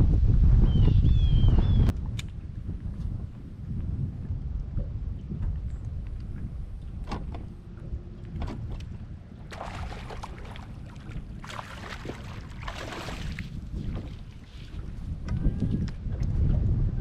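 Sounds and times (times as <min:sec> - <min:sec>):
wind rumbling on microphone: 0:00.0 - 0:17.0
water splashing against hull: 0:01.9 - 0:16.8.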